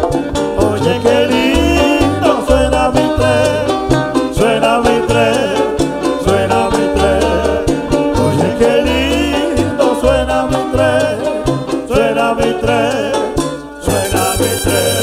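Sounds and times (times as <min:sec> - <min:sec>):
people singing: 0:00.0 - 0:15.0
plucked string instrument: 0:00.0 - 0:15.0
trumpet: 0:00.0 - 0:15.0
upright bass line: 0:00.0 - 0:15.0.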